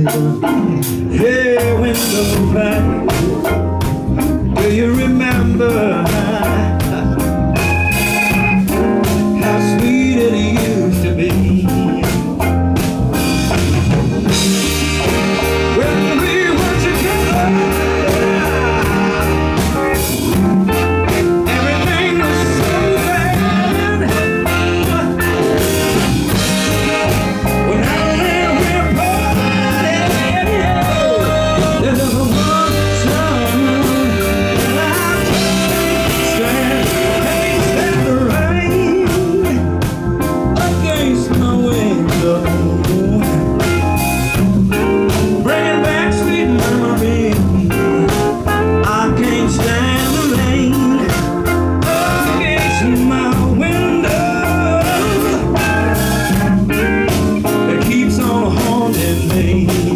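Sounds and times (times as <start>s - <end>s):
man singing: 0.0s - 12.6s, 14.2s - 59.9s
live blues rock band: 0.0s - 59.9s.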